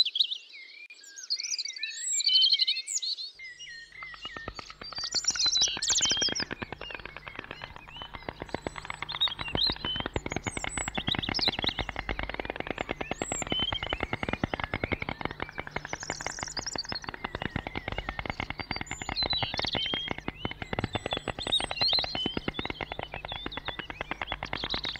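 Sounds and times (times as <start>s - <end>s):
small birds chirping: 3.4s - 24.9s
rapid dense clicking: 4.0s - 24.9s.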